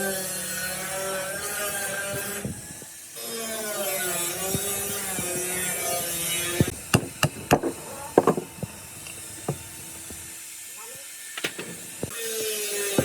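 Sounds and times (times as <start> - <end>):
small motor running: 0.0 - 13.0.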